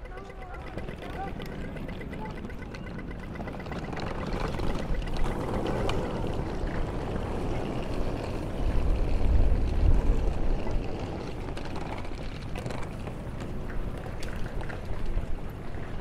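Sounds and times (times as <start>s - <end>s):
rushing outdoor wind rumble: 0.0s - 16.0s.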